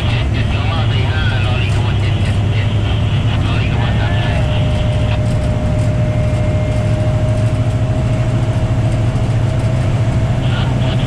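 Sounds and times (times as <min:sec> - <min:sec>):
diesel train engine drone: 0:00.0 - 0:11.0
thin steady whine: 0:00.0 - 0:11.0.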